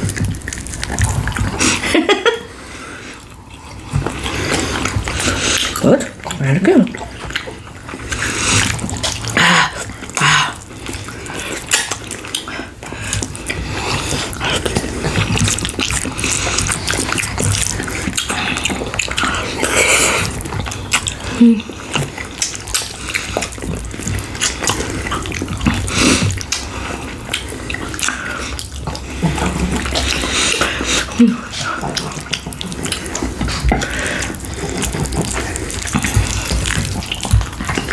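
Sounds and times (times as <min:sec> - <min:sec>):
wet chewing and mouth smacking: 0:00.0 - 0:37.9.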